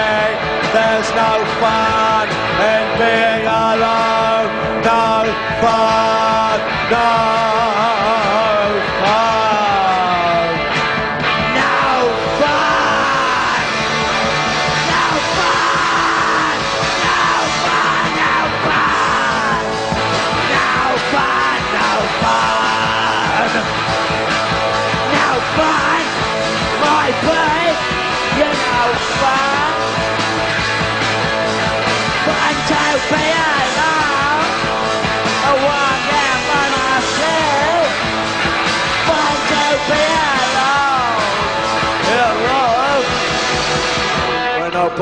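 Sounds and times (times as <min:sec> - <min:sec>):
bass and drums: 0:00.0 - 0:45.0
distorted electric guitar lead: 0:00.0 - 0:45.0.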